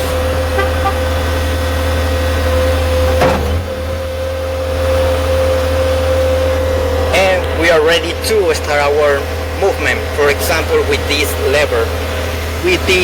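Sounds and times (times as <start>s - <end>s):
skid steer loader engine running: 0.0s - 13.0s.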